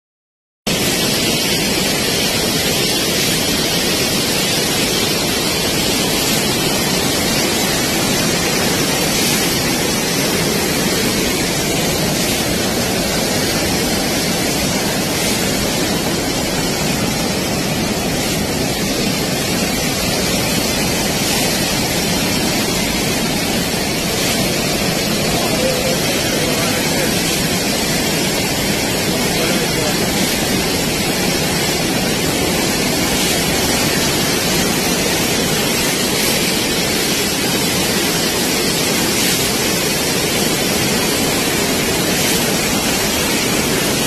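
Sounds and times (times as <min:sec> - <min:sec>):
turbulent water rushing: 0:00.7 - 0:44.0.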